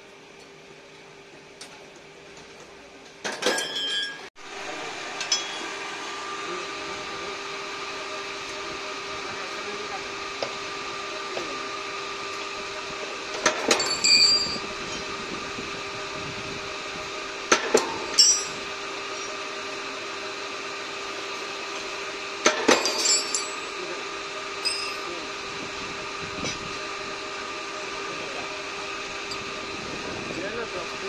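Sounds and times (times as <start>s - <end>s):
bending machine motor hum: 0.0s - 31.0s.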